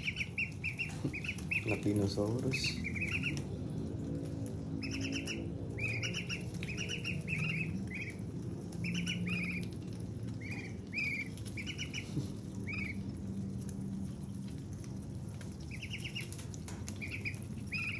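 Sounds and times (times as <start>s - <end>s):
ducklings peeping: 0.0s - 4.0s, 4.6s - 17.9s.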